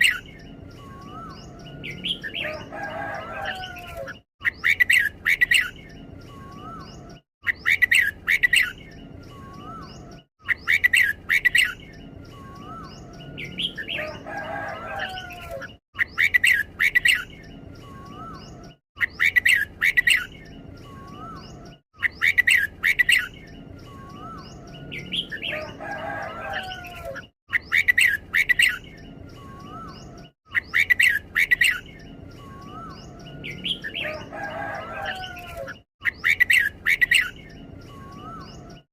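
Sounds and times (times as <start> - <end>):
bulbul chirping song: 0.0 - 38.9.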